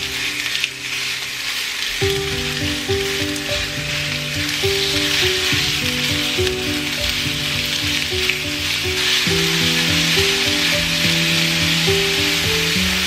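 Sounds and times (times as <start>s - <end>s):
background music: 0.0s - 13.0s
meat and onion sizzling in oil: 0.0s - 13.0s
spatula moving in pan: 0.0s - 13.0s.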